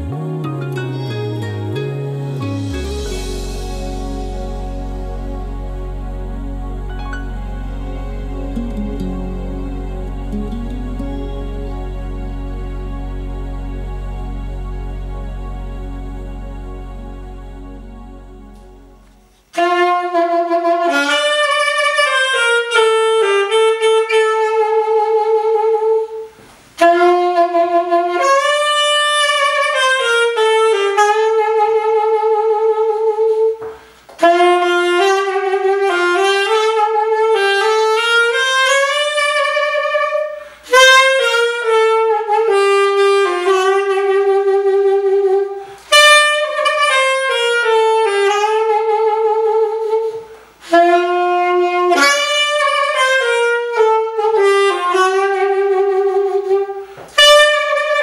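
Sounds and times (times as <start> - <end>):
alto saxophone melody: 0.0 - 58.0.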